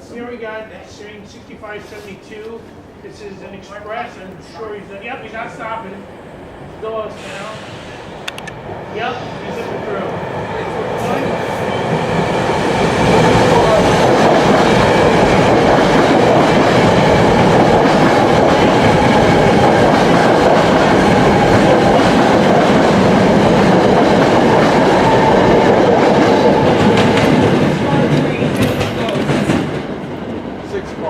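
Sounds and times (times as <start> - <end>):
train passing at speed: 1.4 - 31.0.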